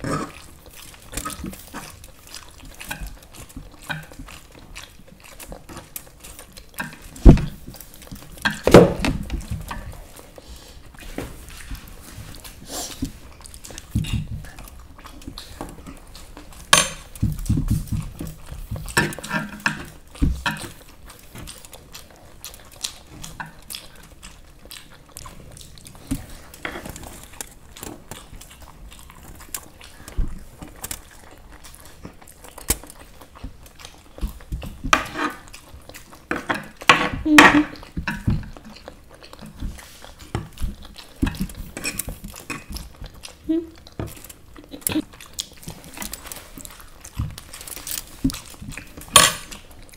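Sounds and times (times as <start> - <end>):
chewing: 0.0 - 49.9.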